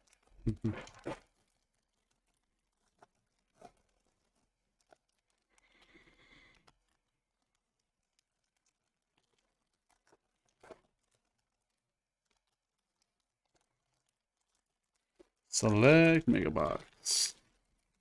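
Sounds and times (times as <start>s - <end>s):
foil pack crinkling and tearing: 0.0s - 18.0s.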